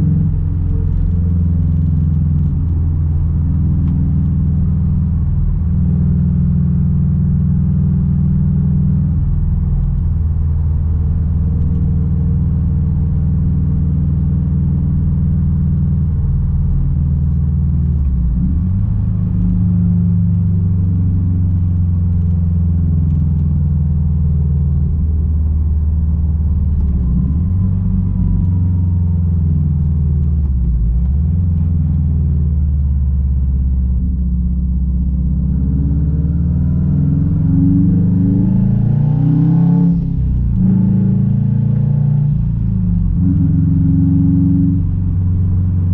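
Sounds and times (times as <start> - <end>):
car engine exhaust rumble: 0.0 - 45.9.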